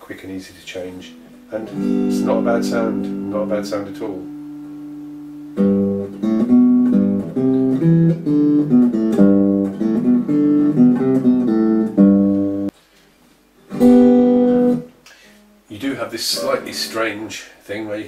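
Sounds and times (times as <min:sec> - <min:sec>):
amplified guitar melody: 0:01.0 - 0:12.7, 0:13.7 - 0:15.6, 0:16.4 - 0:17.3.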